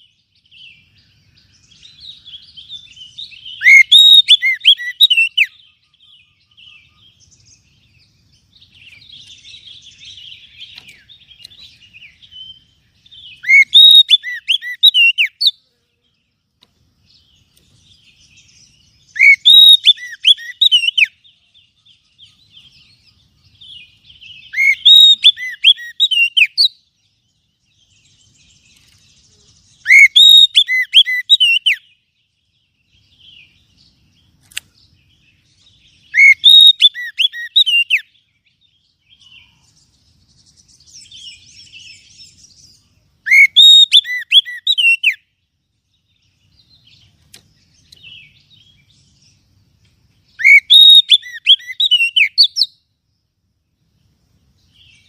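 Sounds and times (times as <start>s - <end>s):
bird whistled song: 0.0s - 15.6s, 17.1s - 49.5s, 50.2s - 52.9s, 54.6s - 55.0s.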